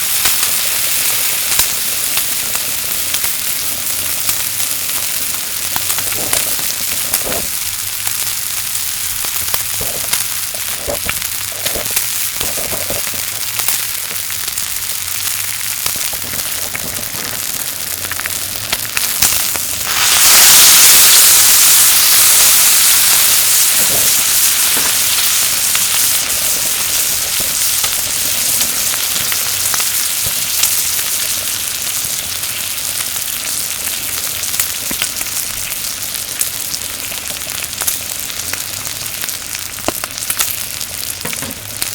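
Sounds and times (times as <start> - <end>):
meat sizzling on griddle: 0.0 - 41.9
pops and crackles: 0.0 - 41.9.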